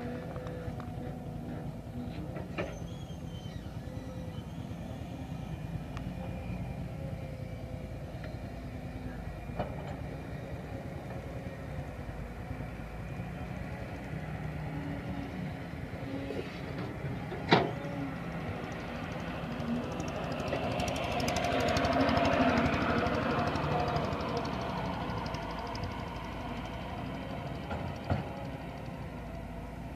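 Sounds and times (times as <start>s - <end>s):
engine rumbling: 0.0s - 29.9s.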